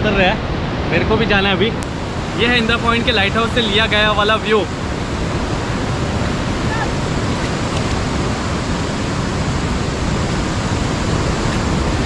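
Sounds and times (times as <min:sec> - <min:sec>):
heavy surf breaking: 0:00.0 - 0:12.0
wind on microphone: 0:00.0 - 0:12.0.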